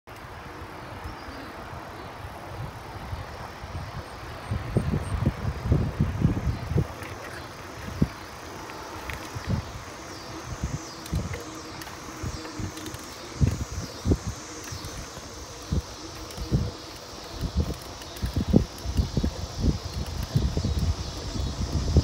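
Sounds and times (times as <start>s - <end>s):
bicycle rolling on pavement: 0.1s - 22.0s
wind gusts on microphone: 0.2s - 22.0s.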